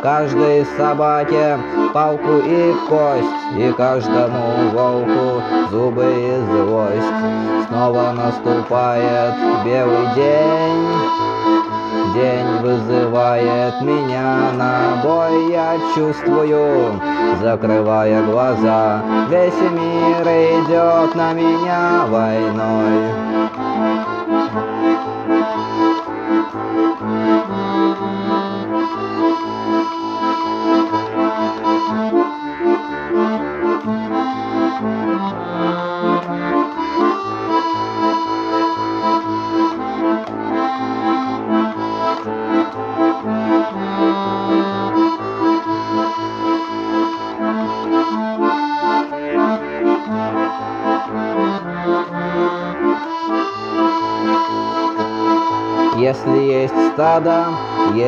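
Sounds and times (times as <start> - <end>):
accordion playing: 0.0 - 58.0.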